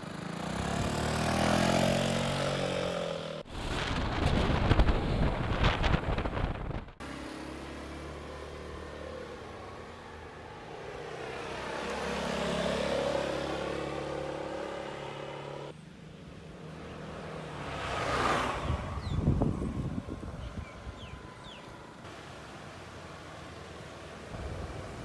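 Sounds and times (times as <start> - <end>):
vehicle swishing past: 0.2 - 3.4, 7.0 - 15.7, 16.8 - 25.0.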